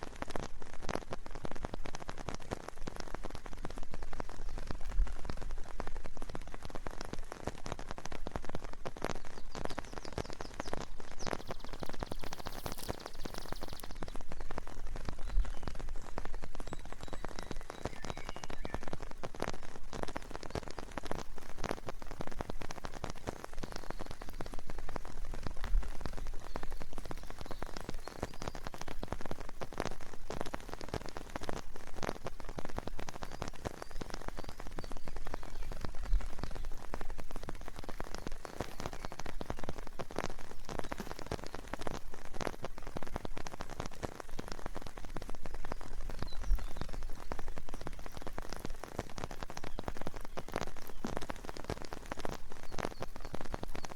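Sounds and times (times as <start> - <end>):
rain on leaves and ground: 0.0 - 53.9.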